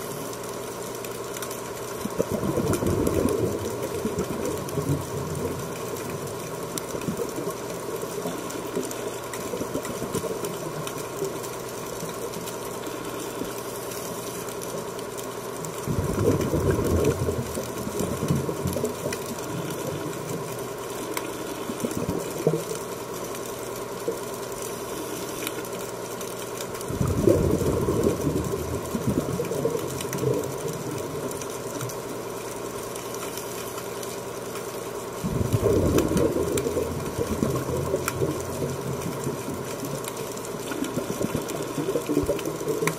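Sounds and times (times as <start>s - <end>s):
underwater mechanical hum: 0.0s - 42.9s.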